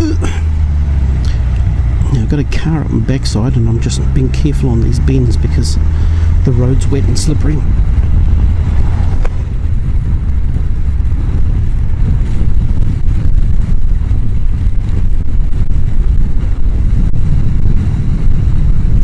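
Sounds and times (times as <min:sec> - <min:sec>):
motorcycle running: 0:00.0 - 0:19.0
wind buffeting microphone: 0:00.0 - 0:19.0.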